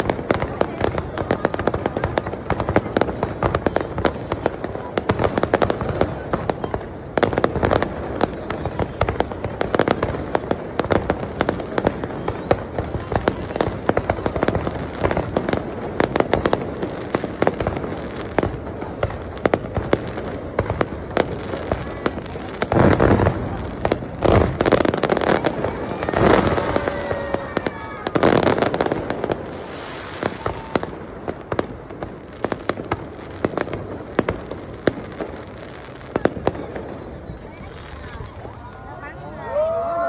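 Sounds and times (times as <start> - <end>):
fireworks crackling and banging: 0.0 - 40.0.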